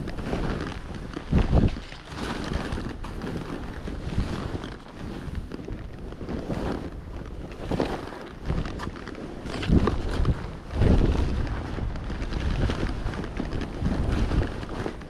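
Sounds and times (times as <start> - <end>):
skis whooshing through powder snow: 0.0 - 15.0
wind on microphone: 0.0 - 15.0.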